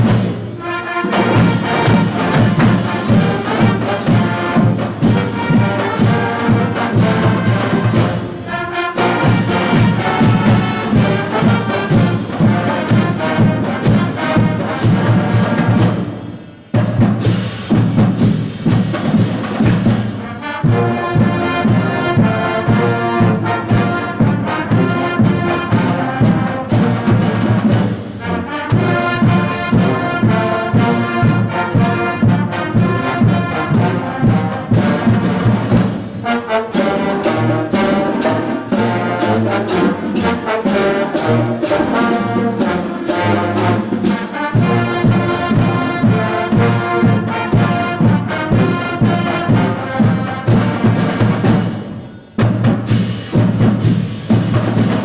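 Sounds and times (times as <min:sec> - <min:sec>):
concert band playing march: 0:00.0 - 0:55.0.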